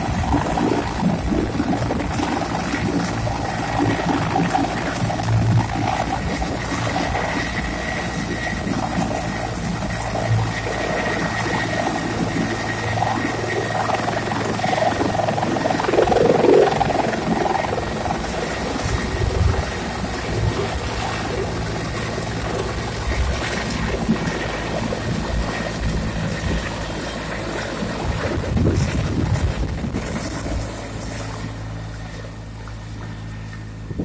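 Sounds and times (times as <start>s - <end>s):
helicopter rotor noise: 0.0s - 34.0s
high turbine whine: 0.0s - 34.0s.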